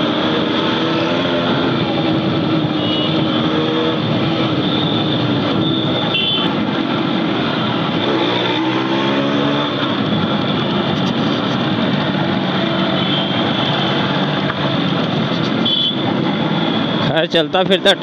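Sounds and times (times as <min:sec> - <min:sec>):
motorcycle engine accelerating: 0:00.0 - 0:16.9
traffic noise: 0:00.0 - 0:18.0.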